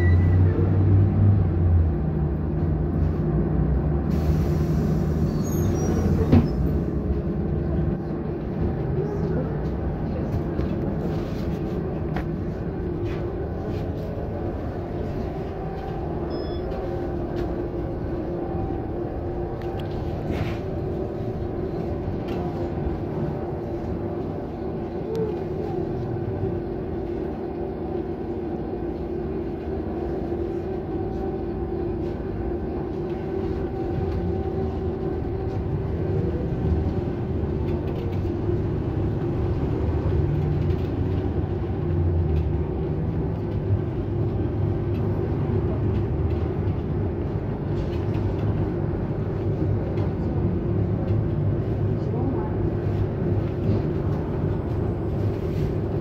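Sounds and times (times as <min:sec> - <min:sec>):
road rumble: 0:00.0 - 0:56.0.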